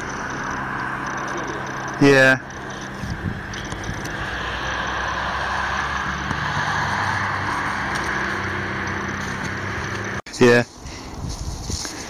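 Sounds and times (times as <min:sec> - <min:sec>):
car passing: 0:00.0 - 0:10.2.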